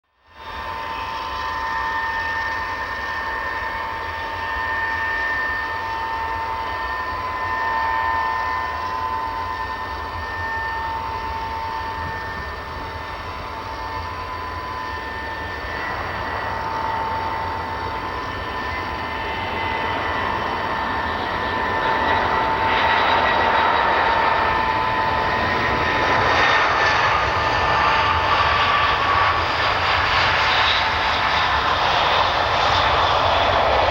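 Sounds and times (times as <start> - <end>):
jet engines whining: 0.4 - 33.9.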